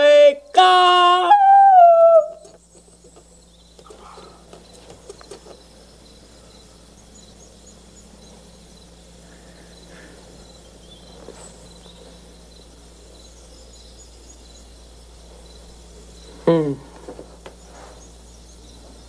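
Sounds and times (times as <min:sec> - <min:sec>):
background hiss: 0:00.0 - 0:19.0
crickets chirping: 0:00.0 - 0:19.0
steady low hum: 0:00.0 - 0:19.0.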